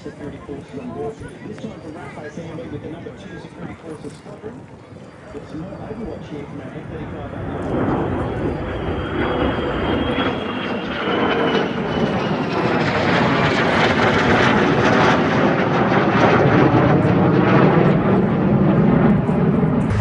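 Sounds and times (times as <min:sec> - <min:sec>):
military aircraft engine roar: 0:00.0 - 0:20.0.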